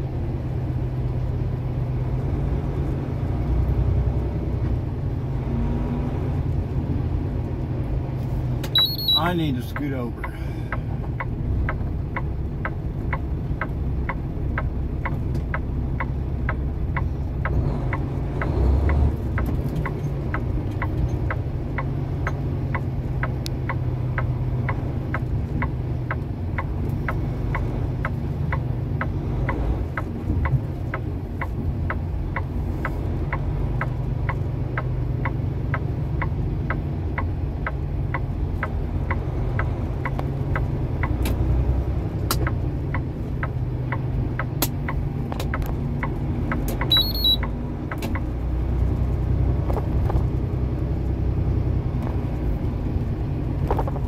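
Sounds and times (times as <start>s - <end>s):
truck engine drone: 0.0s - 54.0s
turn signal ticking: 0.1s - 54.0s.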